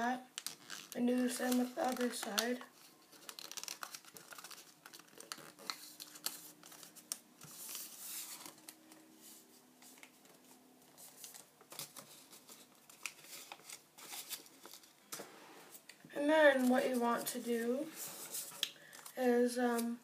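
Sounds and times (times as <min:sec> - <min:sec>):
paper rustling and crinkling: 0:00.4 - 0:15.8, 0:16.4 - 0:19.9.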